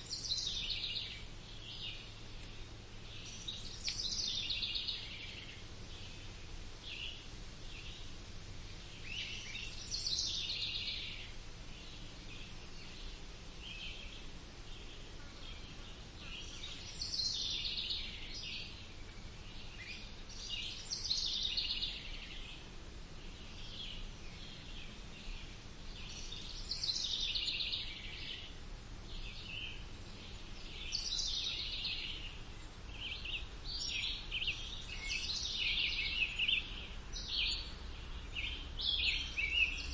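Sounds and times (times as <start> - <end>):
birds singing: 0.0 - 39.9
low background rumble: 0.0 - 39.9.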